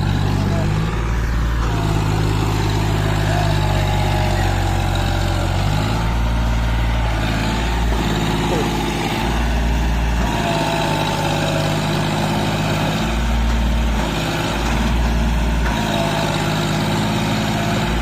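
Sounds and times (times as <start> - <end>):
tractor diesel engine rumbling: 0.0 - 18.0.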